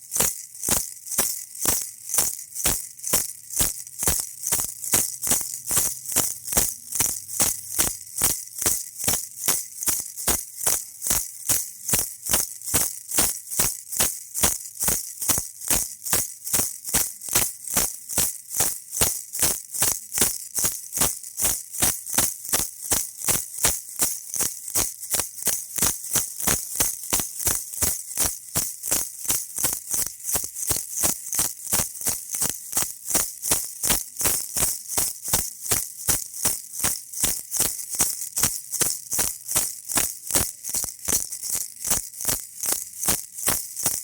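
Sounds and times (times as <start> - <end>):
baby rattle shaking: 0.0 - 44.0.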